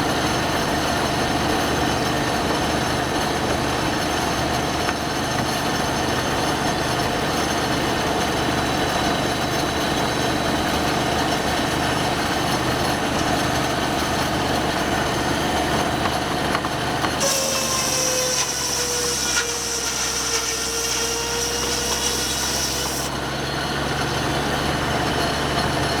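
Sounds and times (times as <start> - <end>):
sawmill machinery running: 0.0 - 26.0
saw cutting into wood: 0.1 - 9.6, 12.8 - 24.1.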